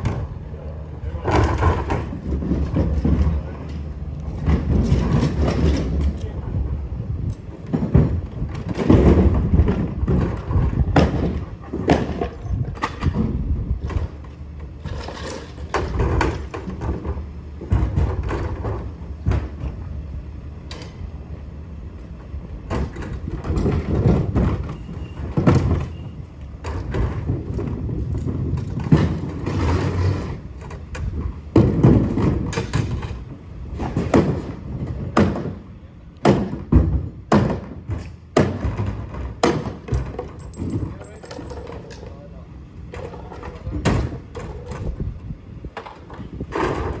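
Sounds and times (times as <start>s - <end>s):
trash truck engine rumbling: 0.0s - 47.0s.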